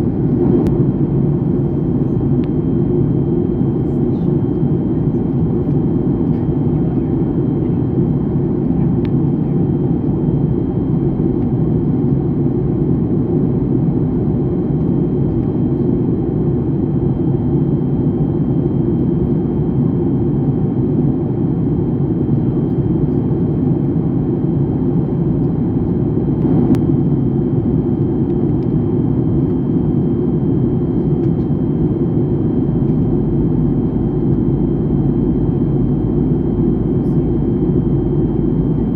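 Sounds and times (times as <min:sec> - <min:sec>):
airliner engine rumble: 0:00.0 - 0:38.9.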